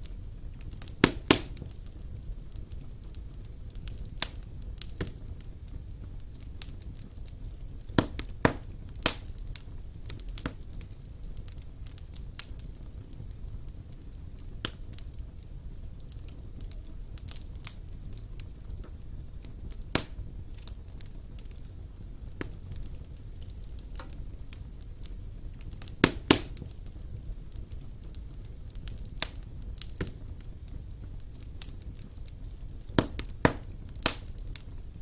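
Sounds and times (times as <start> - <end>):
fire crackling and popping: 0.0 - 35.0
wood fire rumbling and hissing: 0.0 - 35.0.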